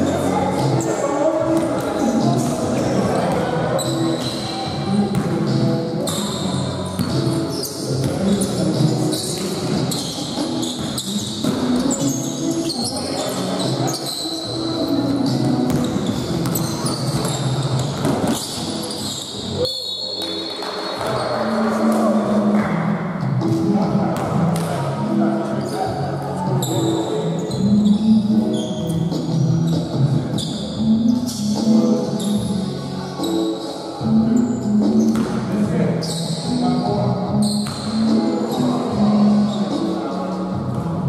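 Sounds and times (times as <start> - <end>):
sneakers squeaking: 0.0 - 22.7, 23.3 - 41.0
players' voices: 0.0 - 41.0.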